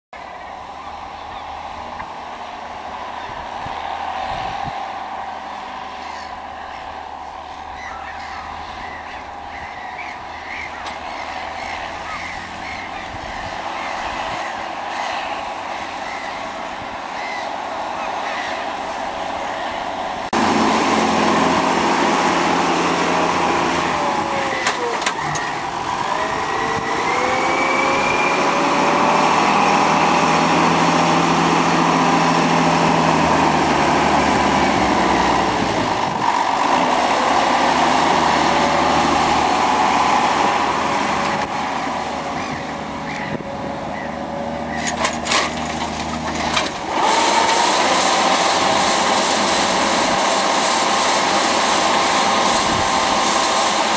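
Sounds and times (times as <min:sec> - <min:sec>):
tractor engine under load: 0:00.2 - 0:53.9.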